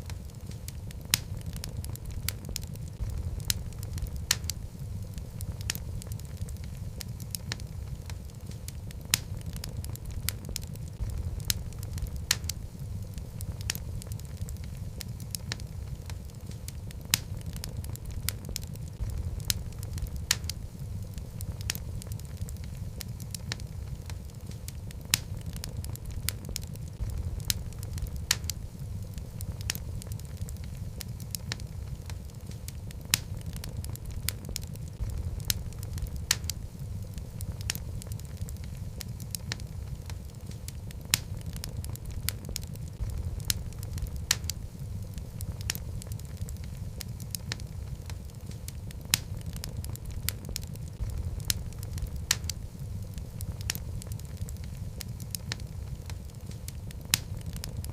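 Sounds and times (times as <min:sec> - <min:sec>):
fire rumbling: 0:00.0 - 0:57.9
logs crackling and popping: 0:00.0 - 0:57.9.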